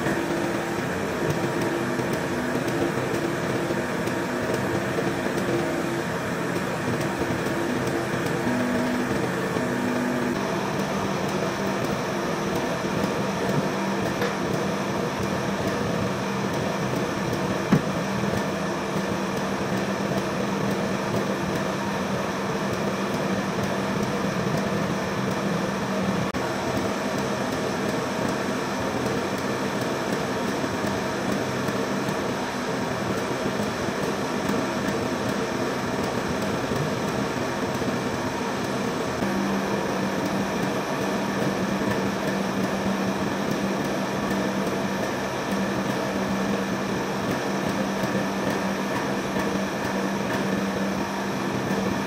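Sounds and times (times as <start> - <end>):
hydraulic press hum: 0.0 - 52.0.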